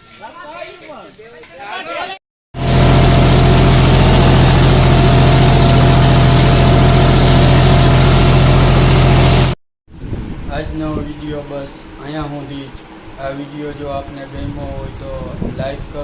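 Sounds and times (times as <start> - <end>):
mechanical engine drone: 2.6 - 16.0.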